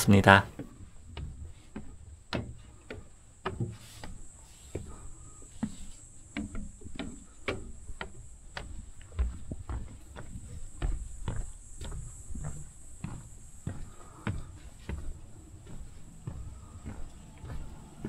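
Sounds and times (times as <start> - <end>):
boot footsteps on trail: 0.2 - 18.0.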